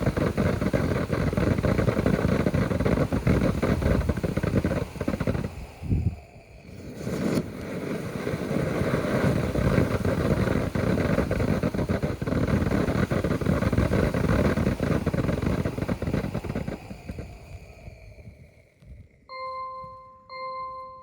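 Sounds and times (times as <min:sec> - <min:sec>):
fountain firework spraying and crackling: 0:00.0 - 0:18.8.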